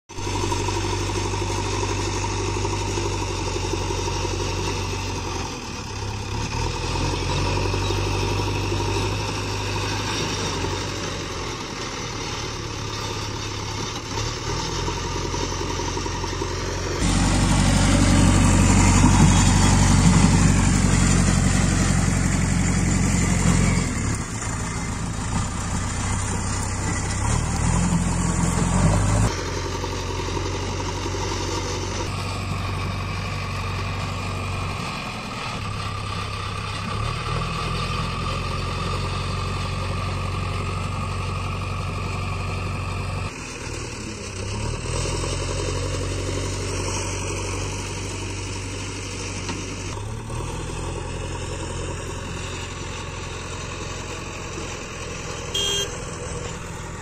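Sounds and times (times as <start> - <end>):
backhoe diesel engine working: 0.1 - 57.0.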